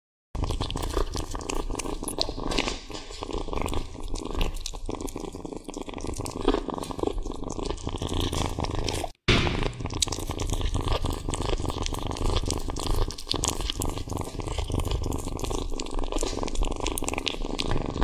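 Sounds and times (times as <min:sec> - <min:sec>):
kitten chewing meat: 0:00.4 - 0:18.0
kitten purring: 0:00.4 - 0:18.0.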